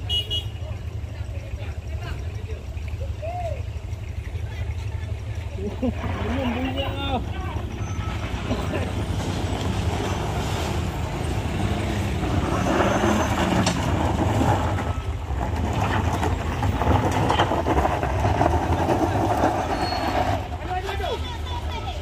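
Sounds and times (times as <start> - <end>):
heavy vehicle engine rumbling: 0.0 - 22.0
road noise: 0.0 - 22.0.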